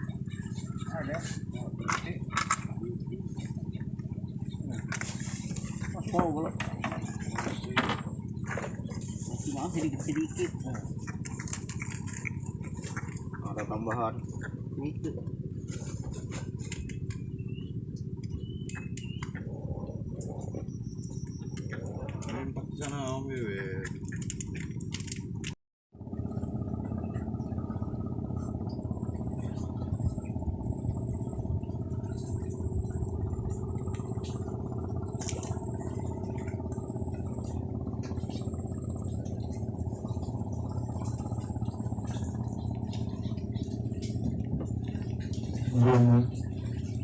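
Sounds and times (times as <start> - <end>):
motor droning: 0.0 - 47.0.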